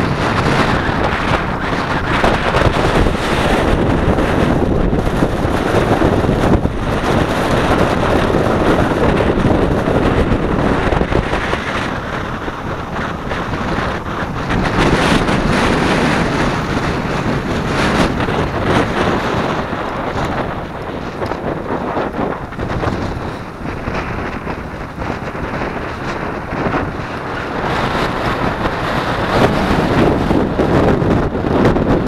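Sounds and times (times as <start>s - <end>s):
strong wind buffeting microphone: 0.0s - 32.0s
surf washing up beach: 0.0s - 32.0s.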